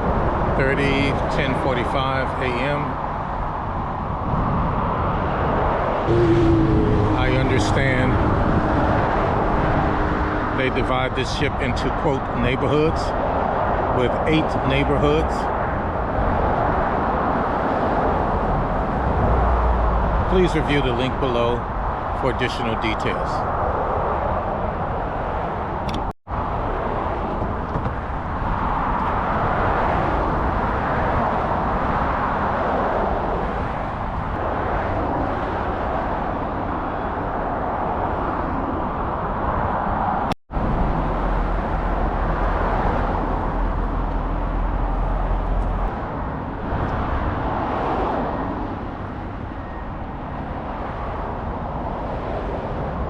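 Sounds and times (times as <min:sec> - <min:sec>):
outdoor low rumble: 0:00.0 - 0:53.0.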